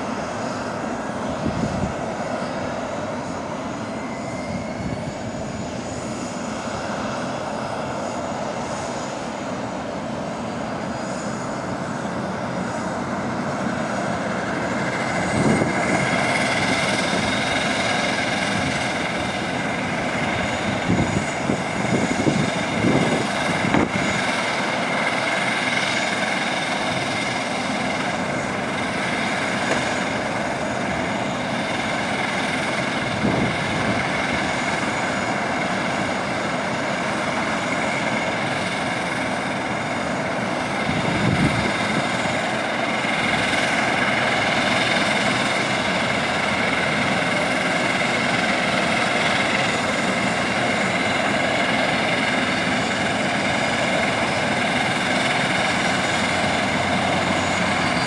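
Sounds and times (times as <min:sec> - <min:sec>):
turboprop engines droning and whining: 0:00.0 - 0:58.0.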